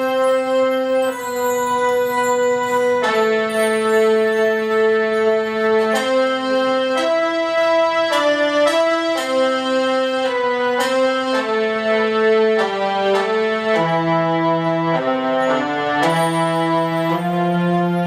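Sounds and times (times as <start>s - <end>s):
slow electronic keyboard melody: 0.0s - 18.0s.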